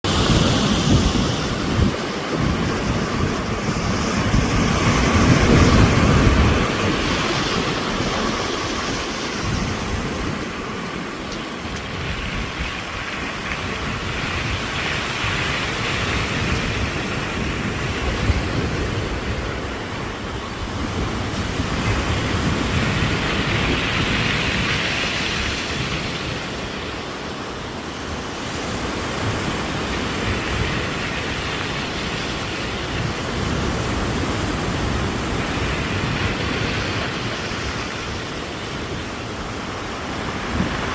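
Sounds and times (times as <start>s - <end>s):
wind buffeting microphone: 0.0s - 40.9s
sea waves breaking on pebbles: 0.1s - 40.9s.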